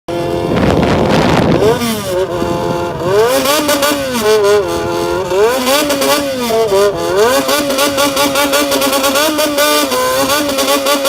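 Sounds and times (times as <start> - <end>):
motorcycle engine revving: 0.1 - 11.0.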